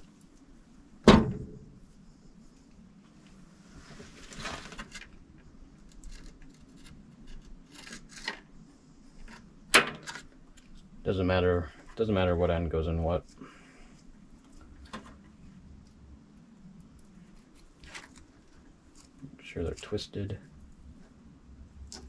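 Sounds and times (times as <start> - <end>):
rustle: 1.5 - 22.0.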